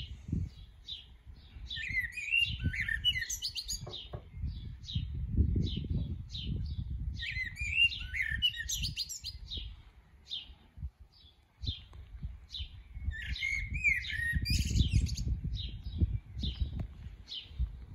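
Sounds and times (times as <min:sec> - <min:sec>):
blackbird singing fluting phrases: 0:00.1 - 0:10.5, 0:12.5 - 0:16.7.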